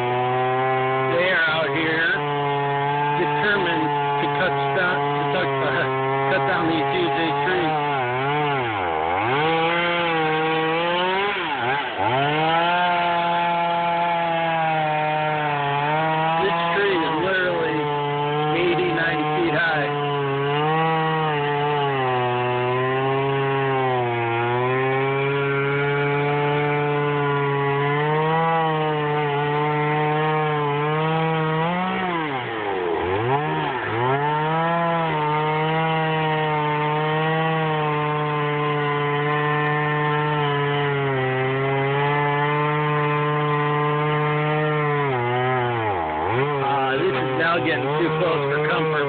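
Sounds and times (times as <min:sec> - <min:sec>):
chainsaw cutting wood: 0:00.0 - 0:49.0.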